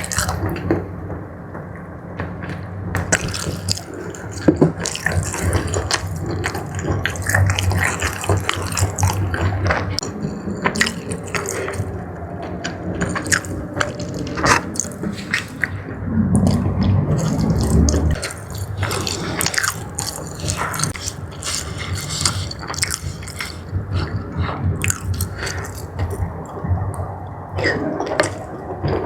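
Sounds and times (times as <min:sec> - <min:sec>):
wet chewing and lip-smacking: 0:00.0 - 0:00.8, 0:03.0 - 0:27.0.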